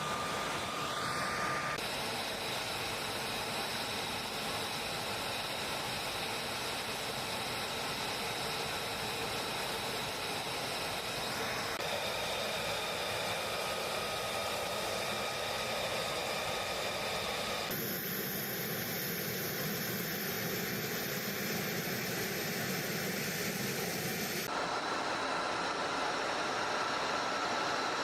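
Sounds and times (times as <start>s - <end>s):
jet engine idling: 0.0s - 28.0s.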